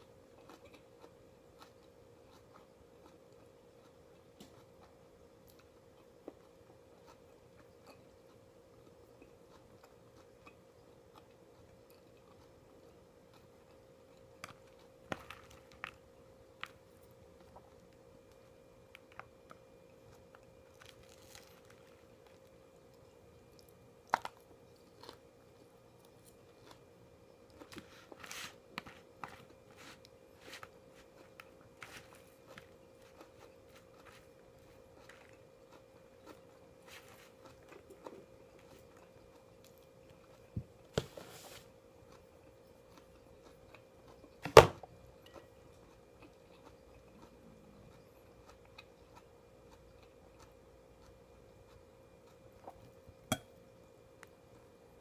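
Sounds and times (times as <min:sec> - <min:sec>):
chewing and crunching food: 0:00.0 - 0:55.0
faint steady hum: 0:00.0 - 0:55.0.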